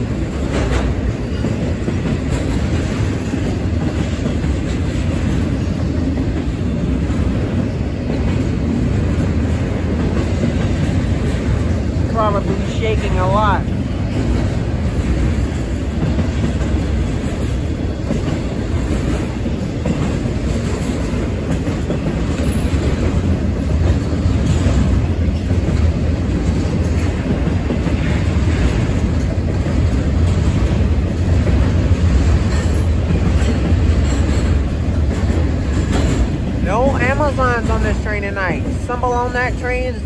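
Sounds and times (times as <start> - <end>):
freight train wheels on rails: 0.0 - 40.0.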